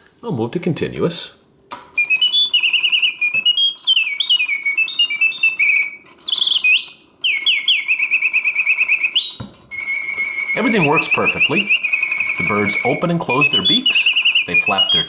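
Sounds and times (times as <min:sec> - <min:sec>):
mechanical bird whistling trills: 0:02.0 - 0:15.0.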